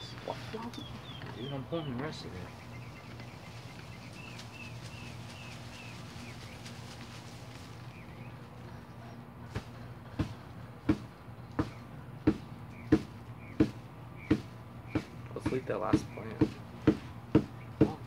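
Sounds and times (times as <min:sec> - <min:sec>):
bird chirping: 0:00.0 - 0:09.3, 0:11.3 - 0:16.6, 0:17.4 - 0:18.0
steady low hum: 0:00.0 - 0:18.0.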